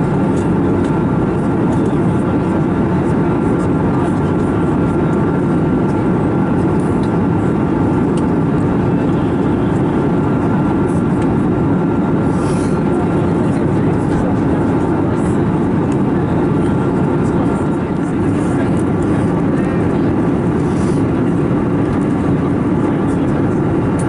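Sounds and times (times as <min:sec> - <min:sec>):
airflow and engine drone: 0:00.0 - 0:24.0
faint steady whine: 0:00.0 - 0:24.0.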